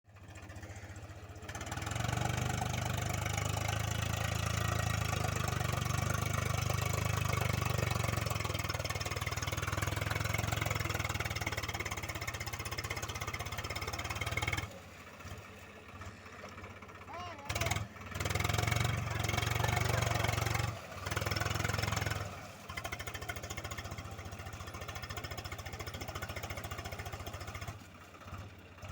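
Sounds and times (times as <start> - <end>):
tractor diesel engine running: 0.1 - 28.9.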